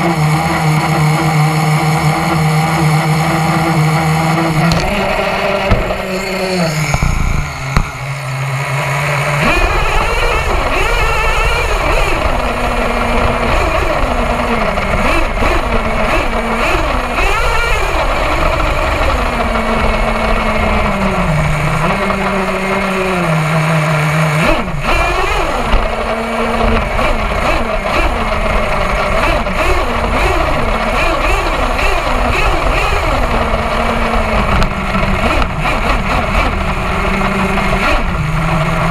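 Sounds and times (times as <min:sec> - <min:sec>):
small nitro engine revving: 0:00.0 - 0:38.9
rumble from rough ground: 0:02.0 - 0:38.9.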